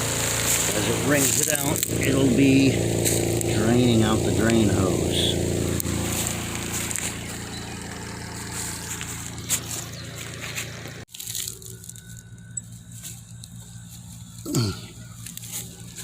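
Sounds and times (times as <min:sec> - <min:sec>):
spin-dryer motor humming: 0:00.0 - 0:11.1, 0:11.7 - 0:16.0
quiet hum: 0:03.0 - 0:16.0.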